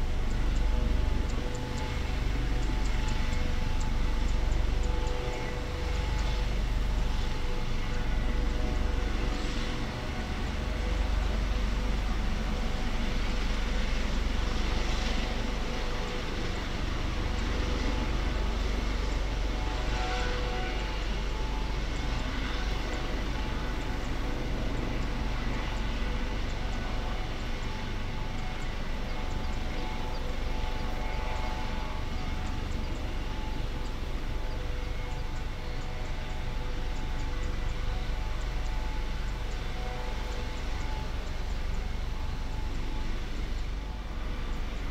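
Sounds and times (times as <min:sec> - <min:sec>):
helicopter rotor hum: 0:00.0 - 0:44.9
turbine whine: 0:00.0 - 0:44.9.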